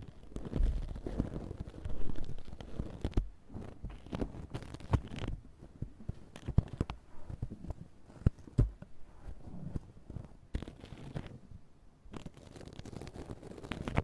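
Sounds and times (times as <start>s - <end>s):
close rustling and scraping: 0.0s - 14.0s.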